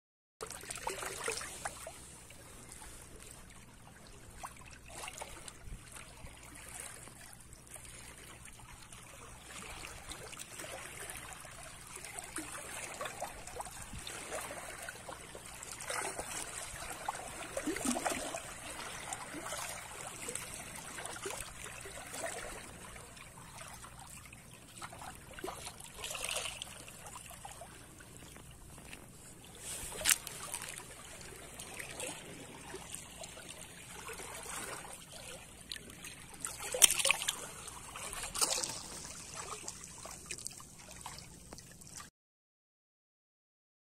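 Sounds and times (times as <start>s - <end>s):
seawater lapping among rocks: 0.4s - 42.1s.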